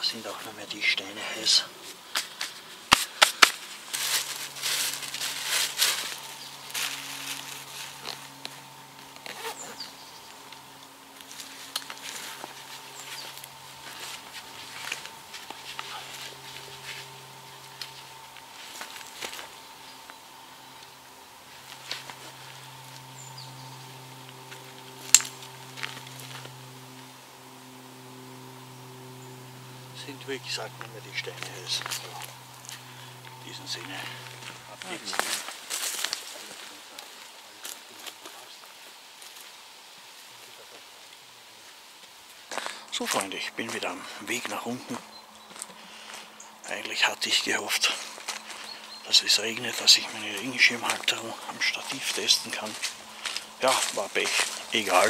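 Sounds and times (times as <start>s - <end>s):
embers hissing and crackling: 0.0s - 55.0s
faint low hum: 0.0s - 55.0s.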